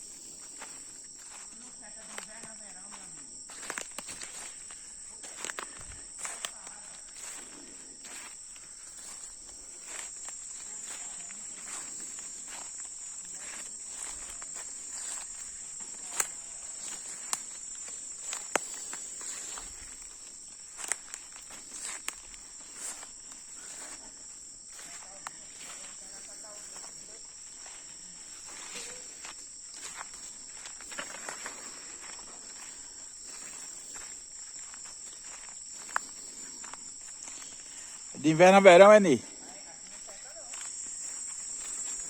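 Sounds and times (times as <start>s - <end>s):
footsteps crackling outdoors: 0.0s - 42.0s
high insect buzz: 0.0s - 42.0s.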